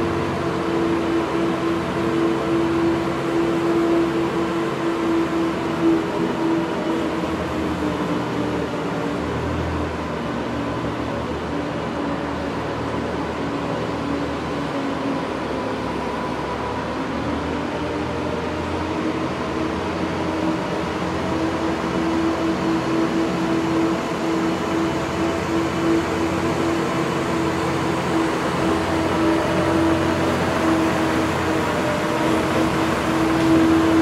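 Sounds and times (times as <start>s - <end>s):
ice resurfacer engine hum: 0.0s - 34.0s.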